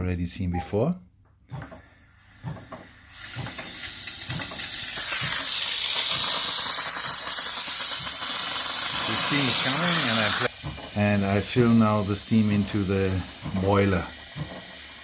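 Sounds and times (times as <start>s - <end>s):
steam hissing: 1.8s - 15.0s.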